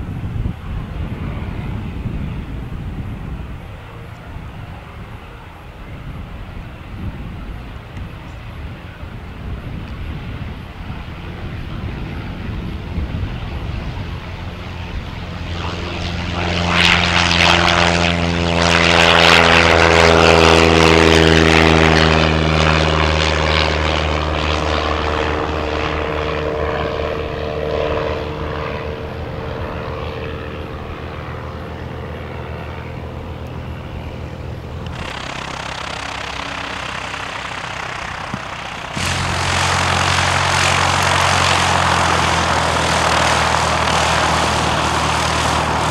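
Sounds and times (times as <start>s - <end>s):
plane engine taxiing close by: 0.0s - 45.9s
propeller plane engine drone: 0.0s - 45.9s.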